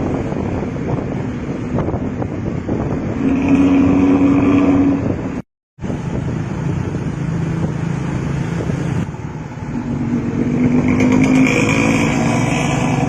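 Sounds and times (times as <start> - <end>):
bus diesel engine growling: 0.0 - 13.0.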